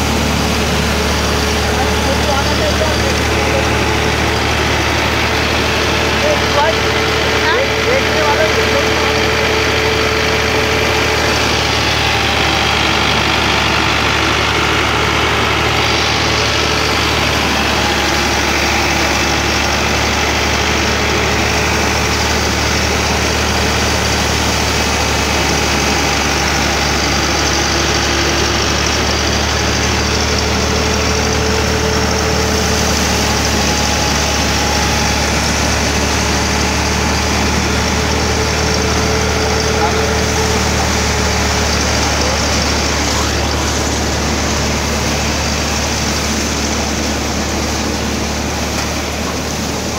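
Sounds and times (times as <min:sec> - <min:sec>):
grain thresher running: 0:00.0 - 0:49.9.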